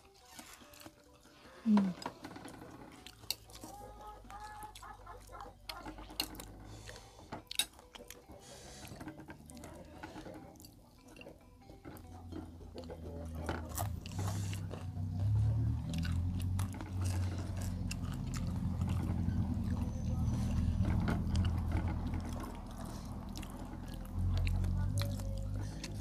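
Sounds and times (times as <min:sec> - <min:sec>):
low rumble of chewing: 0:00.0 - 0:26.0.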